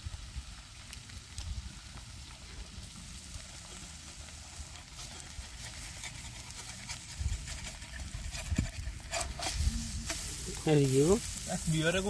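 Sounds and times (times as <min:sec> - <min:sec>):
campfire crackling and sizzling: 0:00.0 - 0:12.0.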